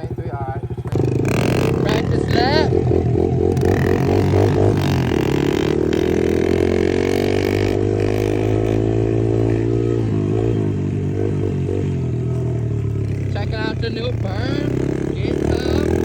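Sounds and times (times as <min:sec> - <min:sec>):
pit bike engine revving: 0:00.0 - 0:16.0.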